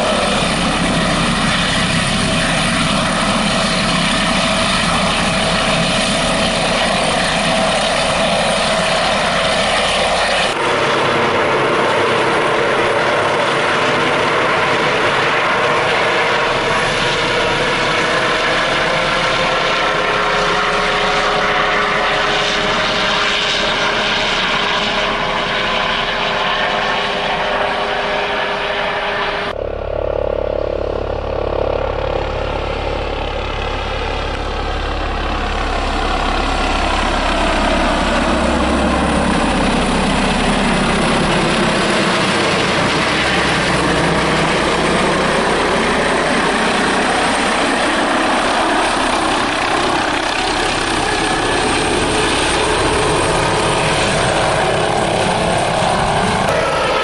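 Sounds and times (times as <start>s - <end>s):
helicopter rotor noise: 0.0s - 57.0s
helicopter turbine whine: 0.0s - 57.0s.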